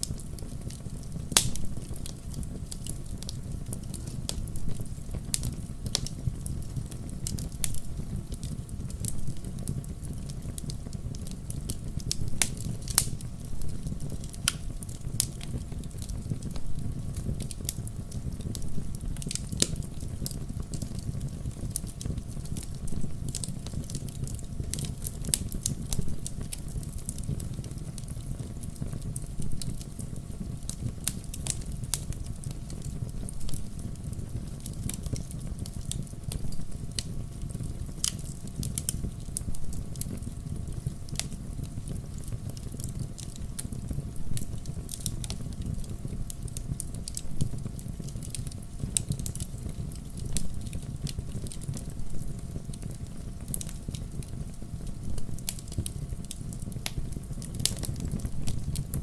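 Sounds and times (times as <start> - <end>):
campfire flames rumbling: 0.0 - 59.0
fire crackling and popping: 0.0 - 59.0.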